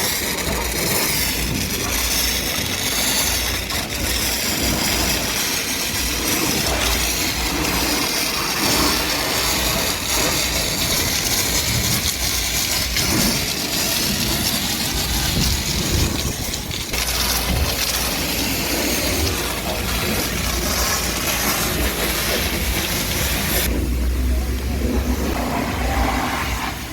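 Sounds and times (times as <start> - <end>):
pressure washer spraying water: 0.0 - 26.9.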